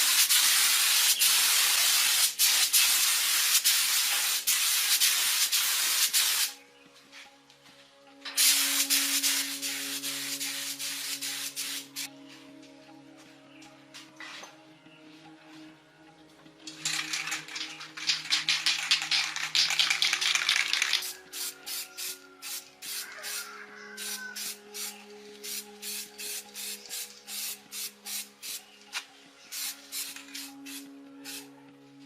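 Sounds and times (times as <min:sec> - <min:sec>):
quiet background music: 0:00.0 - 0:32.0.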